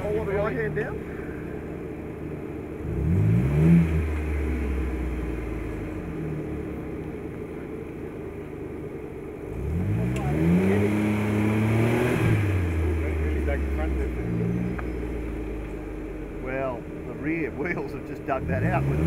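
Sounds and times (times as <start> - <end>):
four-wheel-drive engine revving: 0.0 - 19.0.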